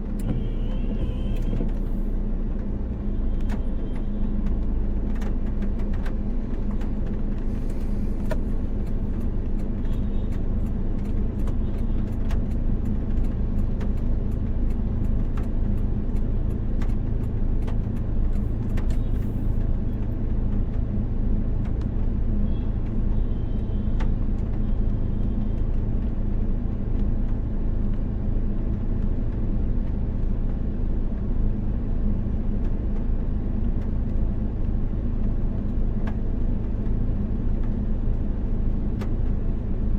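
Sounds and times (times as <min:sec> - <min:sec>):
car engine and road rumble: 0:00.0 - 0:39.9
light ticks: 0:03.3 - 0:22.2, 0:22.8 - 0:39.9.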